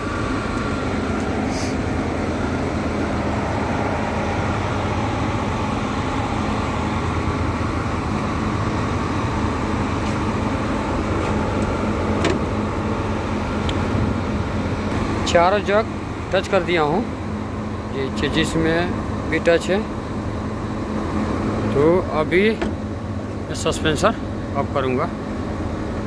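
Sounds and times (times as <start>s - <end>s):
crane diesel engine running: 0.0s - 26.0s.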